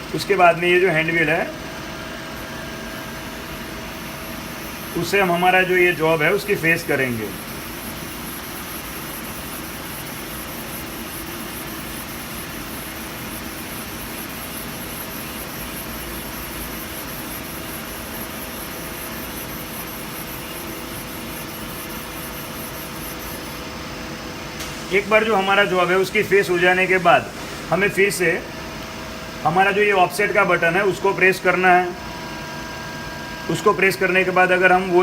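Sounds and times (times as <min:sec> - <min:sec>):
lathe machine hum and hiss: 0:00.0 - 0:35.0.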